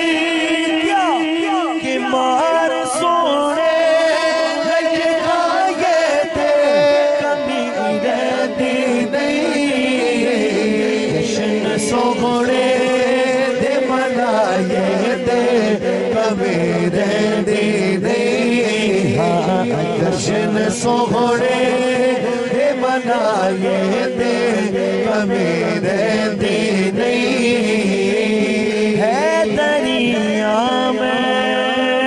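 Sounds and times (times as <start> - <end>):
man singing into a microphone: 0.0 - 32.0.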